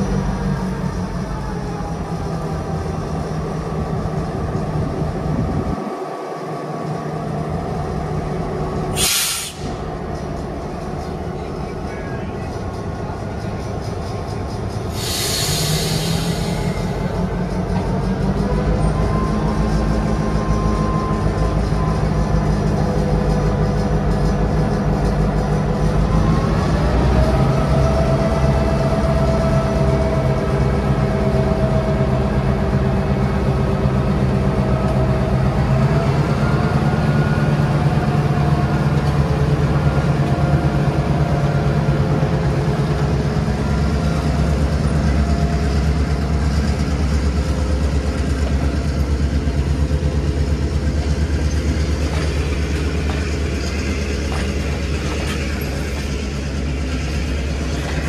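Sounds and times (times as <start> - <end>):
diesel locomotive engine humming: 0.0 - 58.0.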